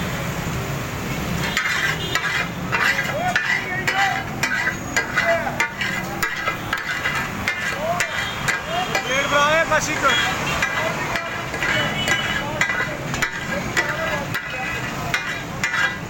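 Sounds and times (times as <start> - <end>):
frying sizzle: 0.0 - 16.0
metal spatulas clattering on griddle: 1.4 - 16.0.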